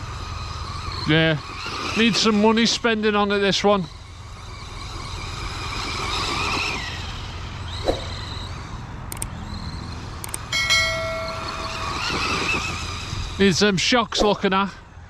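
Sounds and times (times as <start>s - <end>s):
electric motor whining: 0.0s - 13.6s
rumble of wheels: 0.0s - 15.0s.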